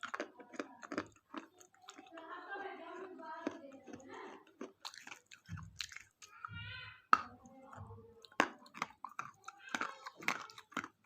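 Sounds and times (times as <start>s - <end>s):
wet mouth clicks: 0.0s - 6.5s, 7.1s - 11.0s
chewing chocolate wafer: 0.0s - 11.0s.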